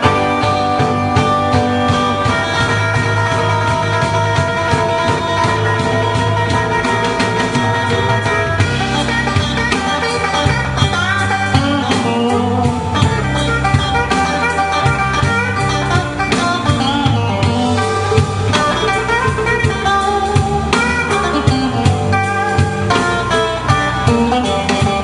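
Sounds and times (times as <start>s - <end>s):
bass guitar line: 0.0s - 25.0s
drum kit: 0.0s - 25.0s
electric guitars: 0.0s - 25.0s.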